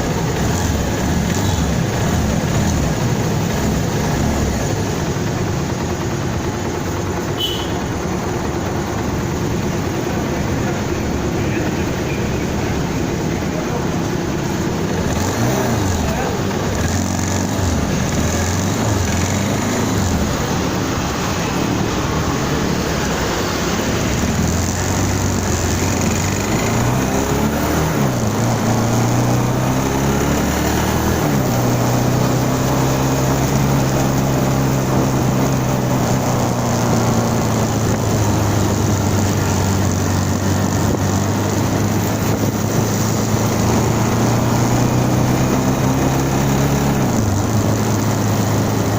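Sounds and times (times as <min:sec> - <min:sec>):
road and wind noise: 0:00.0 - 0:48.9
vehicle engine running: 0:00.0 - 0:48.9.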